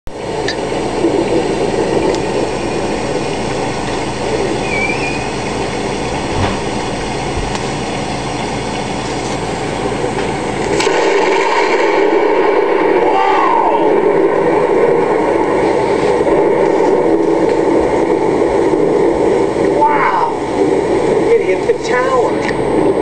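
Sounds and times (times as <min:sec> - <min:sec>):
rain: 0:00.1 - 0:23.0
wind: 0:00.1 - 0:23.0.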